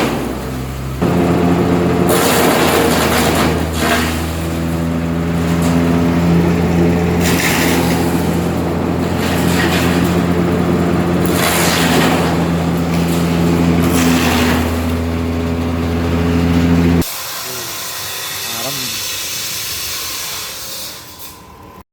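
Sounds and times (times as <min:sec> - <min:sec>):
wood chipper engine running: 0:00.0 - 0:17.6.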